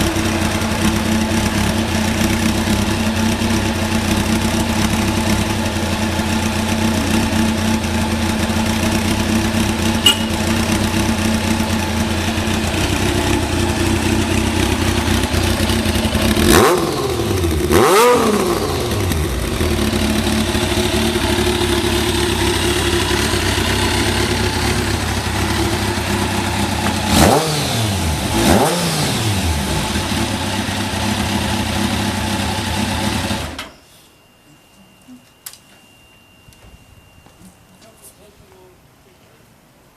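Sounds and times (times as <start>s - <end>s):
motorcycle engine idling and revving: 0.0s - 33.6s.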